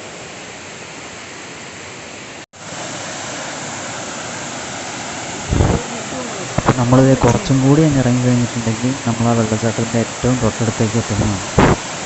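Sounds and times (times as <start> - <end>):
waterfall rushing: 2.2 - 12.0.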